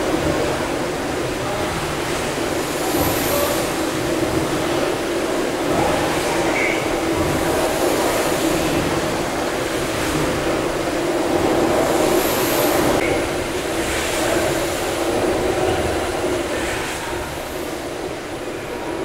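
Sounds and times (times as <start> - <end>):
steam hiss: 0.0 - 19.0.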